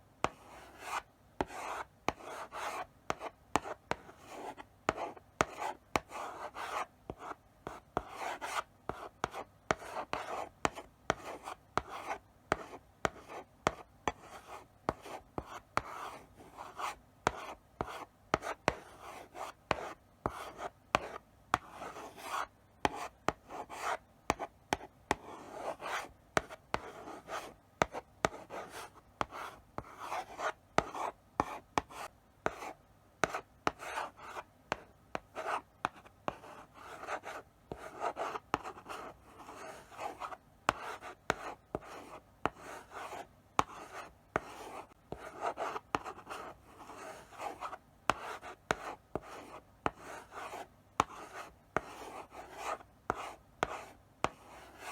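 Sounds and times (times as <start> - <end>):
chalk tapping and scratching on blackboard: 0.2 - 54.9.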